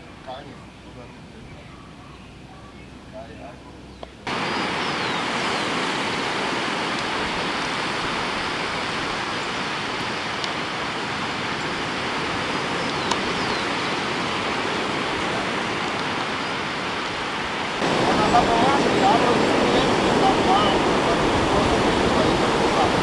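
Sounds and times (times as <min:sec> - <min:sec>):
surf breaking on beach: 0:04.3 - 0:23.0.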